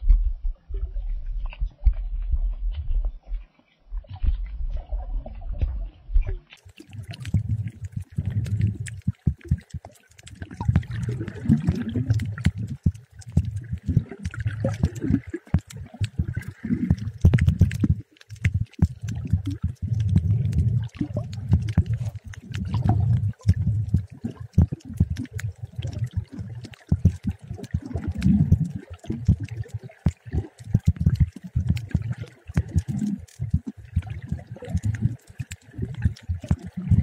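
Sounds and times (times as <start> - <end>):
muffled underwater sloshing: 0.0 - 37.0.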